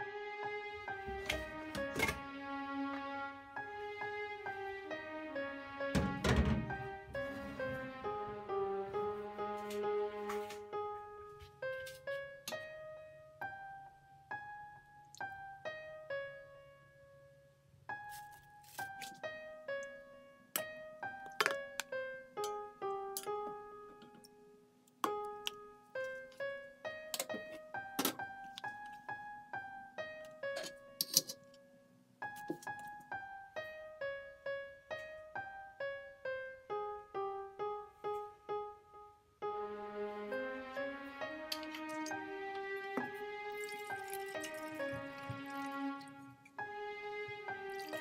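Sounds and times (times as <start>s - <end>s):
slow piano melody: 0.0s - 48.0s.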